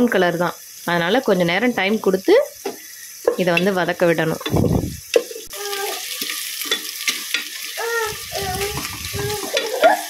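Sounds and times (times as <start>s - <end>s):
onions sizzling in a pan: 0.0s - 10.0s.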